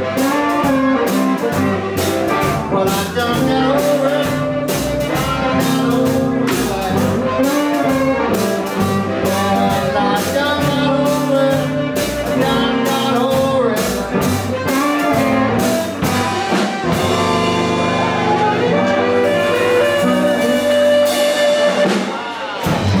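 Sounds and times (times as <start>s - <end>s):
blues band playing: 0.0s - 23.0s
drum beat: 0.0s - 23.0s.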